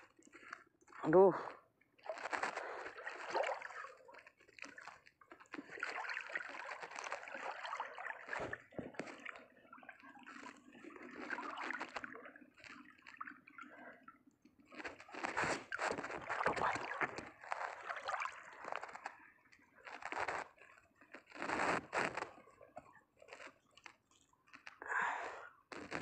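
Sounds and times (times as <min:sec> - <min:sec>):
shallow water sloshing and lapping: 0:00.0 - 0:26.0.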